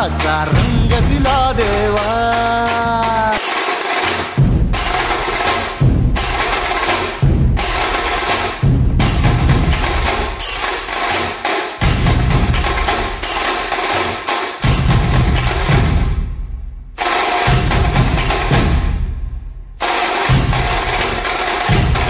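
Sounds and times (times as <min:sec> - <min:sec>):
dhol barrel drums beating: 0:00.0 - 0:22.0
tasha drum strokes: 0:00.0 - 0:22.0.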